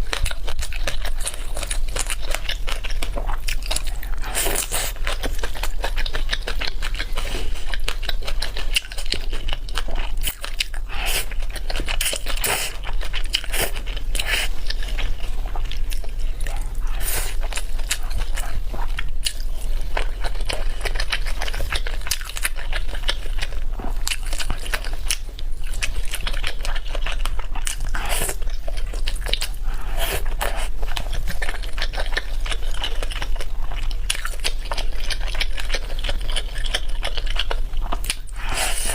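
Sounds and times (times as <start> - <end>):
chewing and biting: 0.0 - 38.9.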